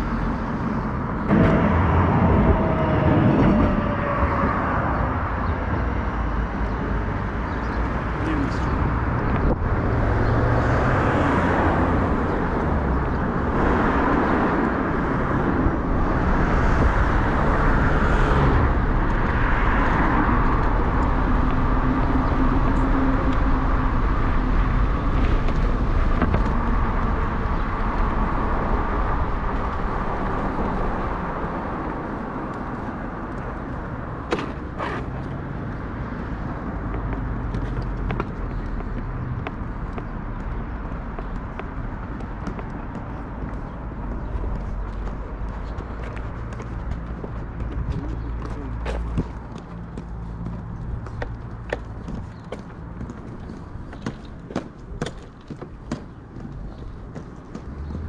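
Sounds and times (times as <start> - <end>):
road traffic rushing noise: 0.0 - 58.0.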